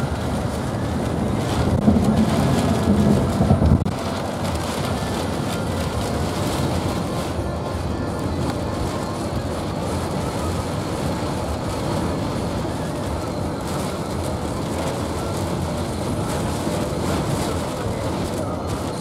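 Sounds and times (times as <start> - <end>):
rain on windshield and roof: 0.0 - 19.0
tyre and road noise: 0.0 - 19.0.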